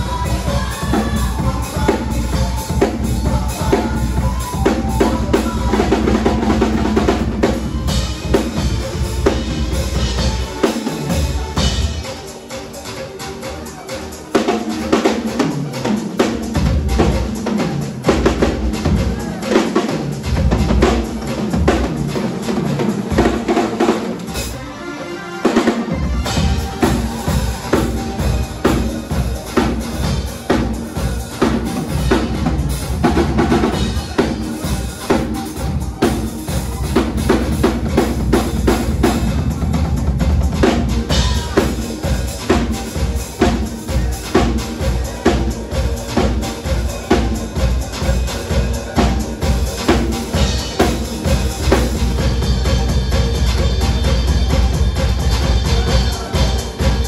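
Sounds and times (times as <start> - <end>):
drum kit played fast: 0.0 - 57.0.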